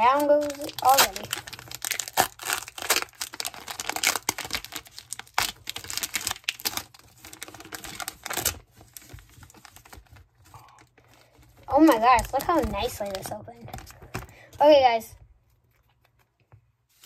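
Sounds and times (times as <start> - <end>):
foil wrapper crinkling and tearing: 0.0 - 14.3.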